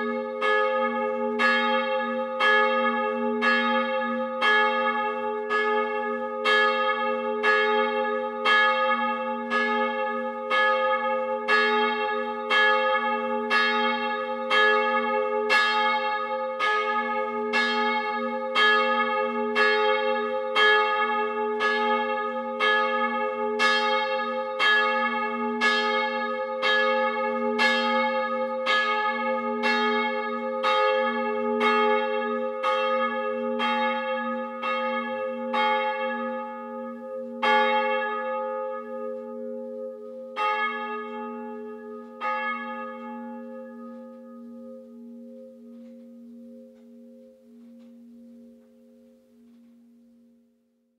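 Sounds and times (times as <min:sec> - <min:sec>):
church bell ringing: 0:00.0 - 0:50.6.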